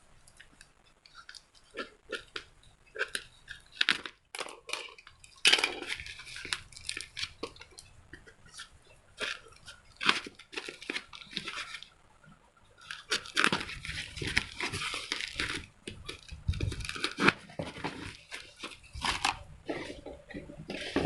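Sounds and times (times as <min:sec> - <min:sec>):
plastic packaging crinkling and tearing: 0:00.2 - 0:12.0, 0:12.8 - 0:21.0.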